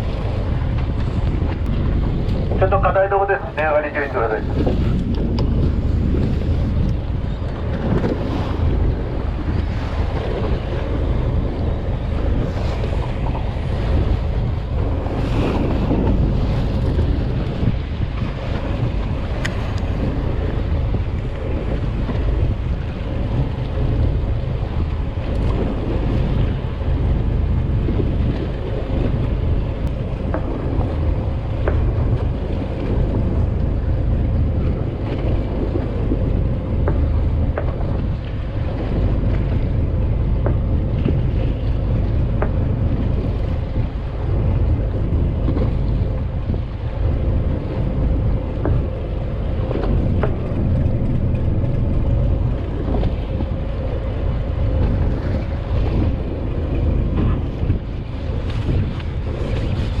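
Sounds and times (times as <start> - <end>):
low rumble of boat and water: 0.0 - 60.0
wind buffeting microphone: 0.0 - 60.0.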